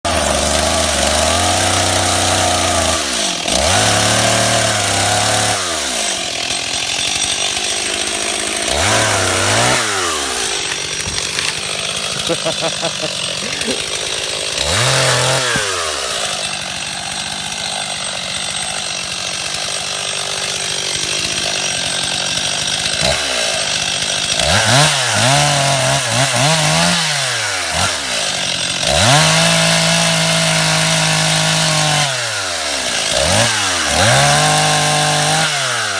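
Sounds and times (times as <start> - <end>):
chainsaw revving: 0.0 - 35.9.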